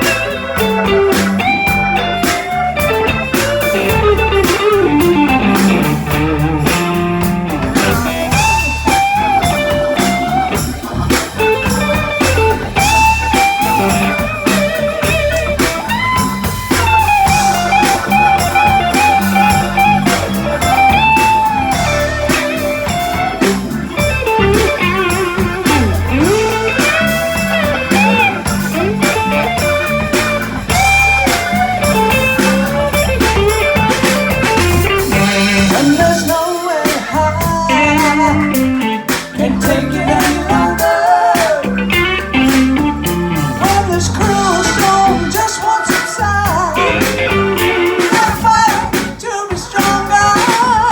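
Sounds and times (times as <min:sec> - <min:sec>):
electric guitar solo: 0:00.0 - 0:49.2
bass and drums: 0:00.0 - 0:50.9.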